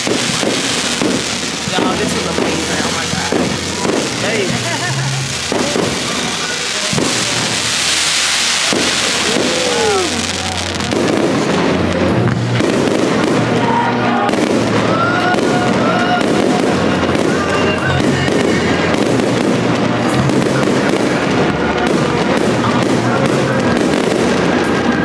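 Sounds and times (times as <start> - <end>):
fireworks bangs and crackling: 0.0 - 25.0
music: 0.0 - 25.0.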